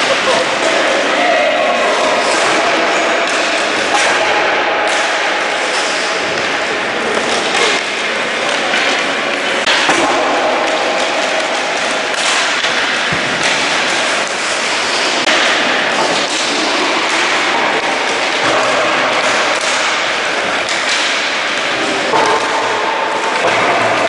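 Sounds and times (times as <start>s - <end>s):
din in rink: 0.0s - 24.0s
hockey sticks striking balls: 0.0s - 24.0s.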